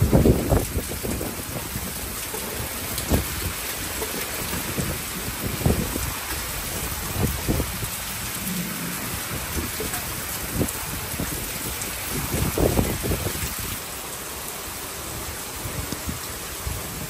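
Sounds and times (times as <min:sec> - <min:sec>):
low rumble of thunder: 0:00.0 - 0:13.8
steady rain: 0:00.0 - 0:17.0.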